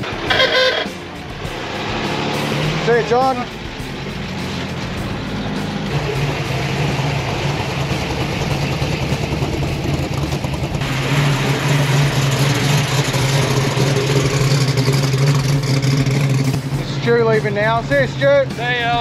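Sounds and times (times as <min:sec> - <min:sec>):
car engines driving past: 0:00.0 - 0:18.6.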